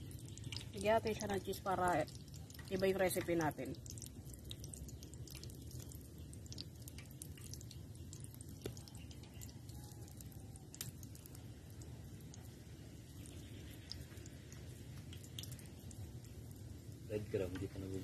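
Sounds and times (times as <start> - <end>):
wet squishing of hands shaping mixture: 0.0 - 17.0
low steady background hum: 0.0 - 18.0.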